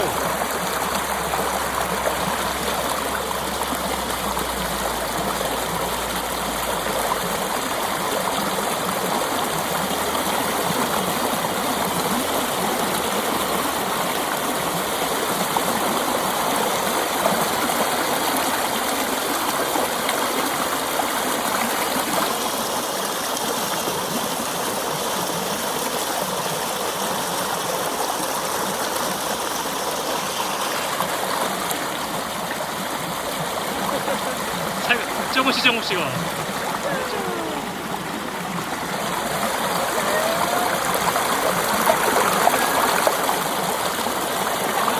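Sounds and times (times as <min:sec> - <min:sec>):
mountain stream flowing: 0:00.0 - 0:44.9.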